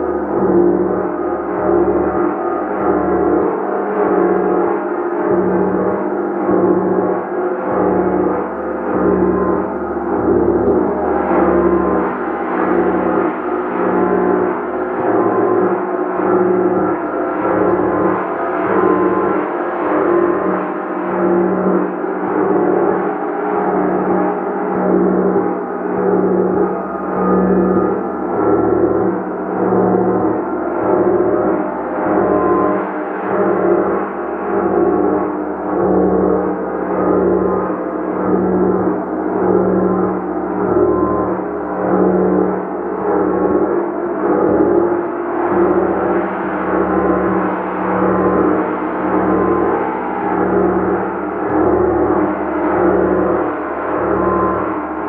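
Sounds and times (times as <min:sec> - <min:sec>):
gong ringing: 0:00.0 - 0:55.0.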